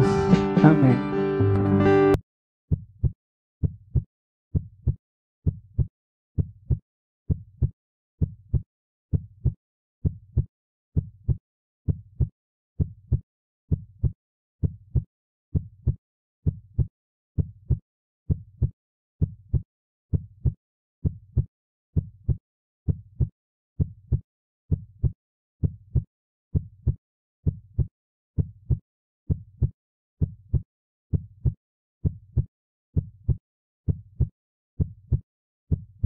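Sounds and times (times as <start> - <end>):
heartbeat thumps: 2.7 - 36.0.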